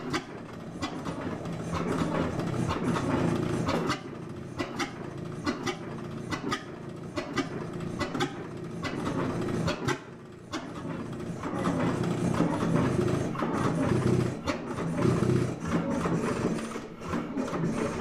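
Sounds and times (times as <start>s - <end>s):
flywheel gas engine running slowly: 0.0s - 18.0s.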